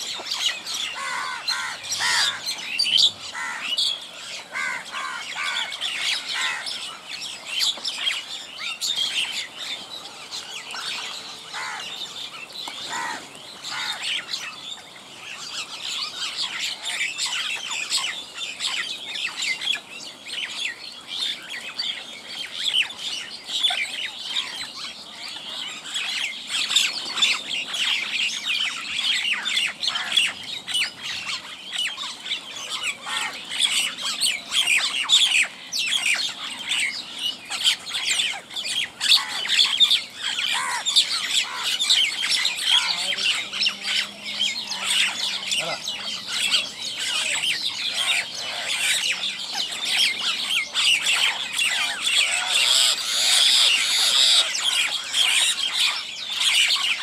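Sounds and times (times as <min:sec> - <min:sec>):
flock of birds chattering: 0:00.0 - 0:57.0.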